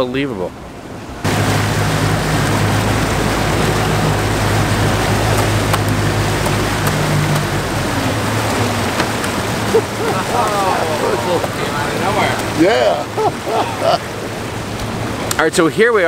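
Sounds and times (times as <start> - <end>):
water rushing: 0.0 - 16.0
boat engine drone: 0.6 - 16.0.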